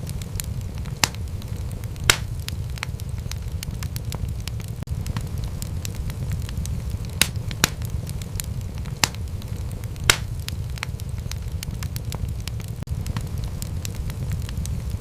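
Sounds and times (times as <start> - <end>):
loud fire pops: 0.0 - 15.0
low rumble of flame: 0.0 - 15.0
wood fire crackling: 0.0 - 15.0.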